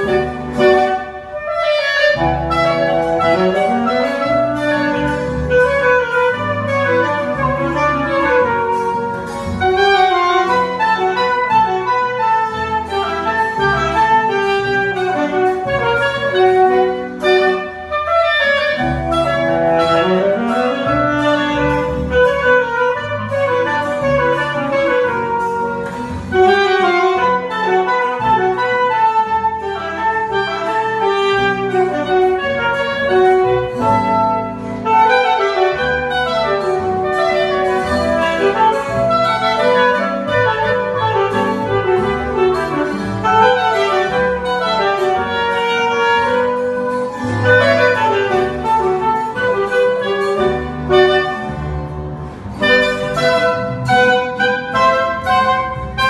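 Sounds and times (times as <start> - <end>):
clarinet melody: 0.0 - 56.0
double bass: 0.0 - 56.0
saxophone melody: 0.0 - 56.0
strummed string instrument: 0.0 - 56.0.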